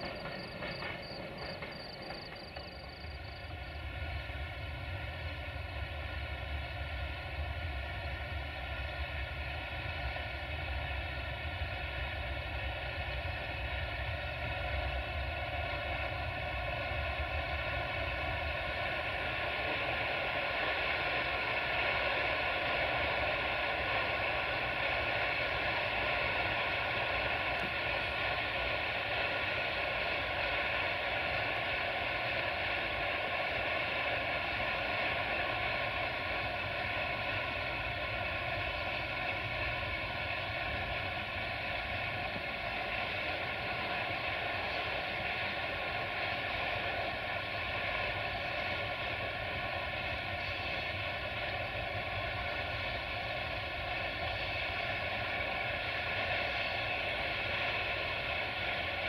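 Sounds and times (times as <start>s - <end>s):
high whine: 0.0s - 59.0s
locomotive engine drone: 0.0s - 59.0s.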